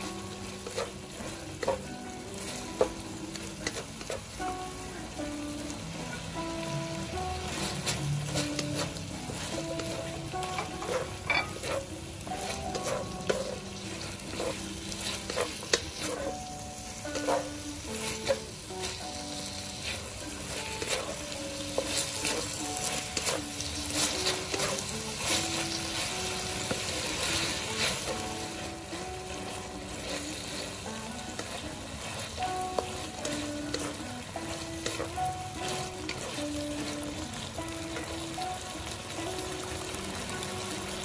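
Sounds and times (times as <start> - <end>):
spatula scraping and tapping pan: 0.0 - 4.6, 7.1 - 38.2
meat sizzling in a wok: 0.0 - 41.0.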